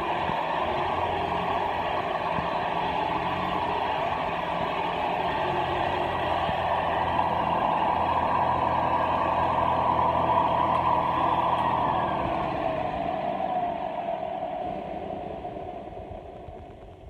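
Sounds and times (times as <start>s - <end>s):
vacuum cleaner droning: 0.0s - 16.5s.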